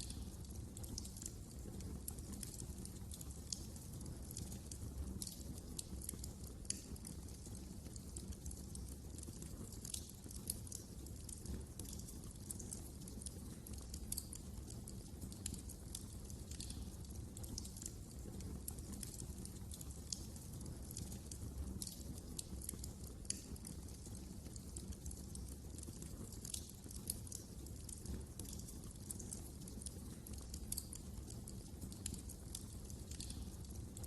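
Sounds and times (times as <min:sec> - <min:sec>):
low rumble of flame: 0:00.0 - 0:34.0
wood fire crackling and popping: 0:00.0 - 0:34.0.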